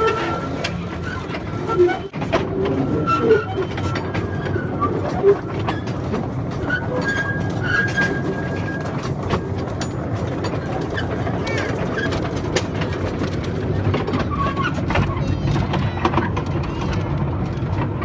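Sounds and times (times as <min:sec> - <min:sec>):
train cars rumbling: 0:00.0 - 0:18.0
wheels clicking over rails: 0:00.0 - 0:18.0.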